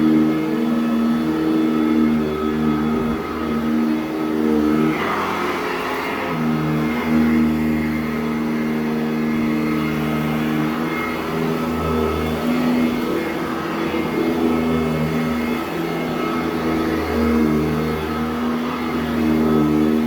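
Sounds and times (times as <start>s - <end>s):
upright vacuum running on carpet: 0.0s - 20.0s.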